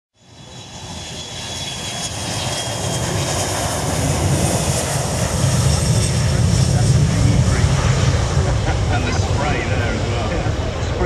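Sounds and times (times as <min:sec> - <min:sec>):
faint jet whine: 0:00.2 - 0:11.0
jet engines rumbling: 0:00.2 - 0:11.0.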